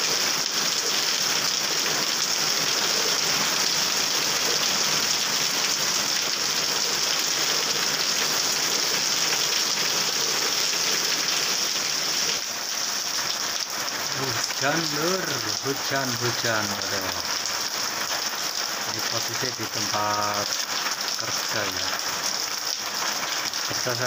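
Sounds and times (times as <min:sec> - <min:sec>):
heavy rain on a wet road: 0:00.0 - 0:24.0.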